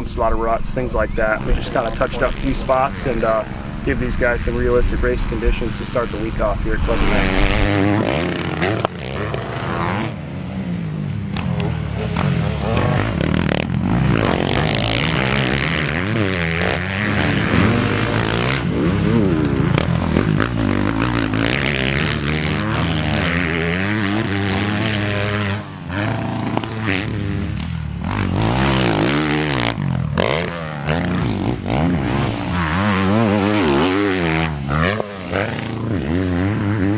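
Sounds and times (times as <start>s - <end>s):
dirt bike engines revving: 0.0s - 36.9s.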